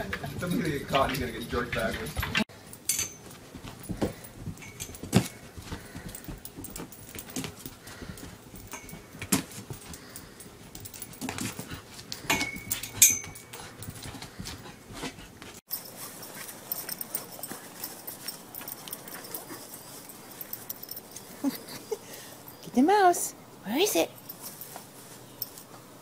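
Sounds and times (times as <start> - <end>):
dog paws scrabbling on floor: 0.0 - 21.8.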